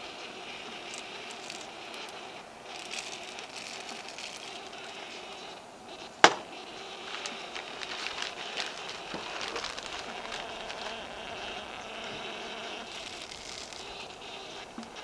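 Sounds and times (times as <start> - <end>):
wood campfire crackling: 0.0 - 15.0.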